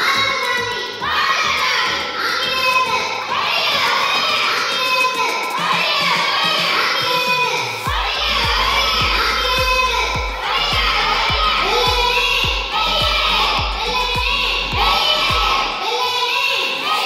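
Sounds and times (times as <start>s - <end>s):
children shouting through loudspeakers: 0.0s - 17.0s.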